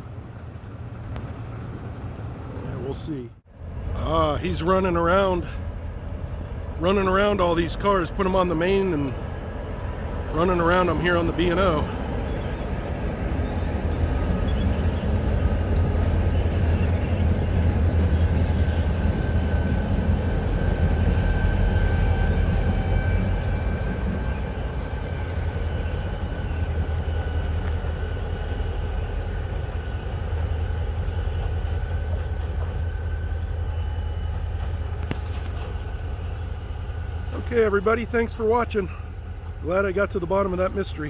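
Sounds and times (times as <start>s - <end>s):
diesel locomotive engine rumble: 0.0s - 41.0s
steady high whine: 1.1s - 41.0s.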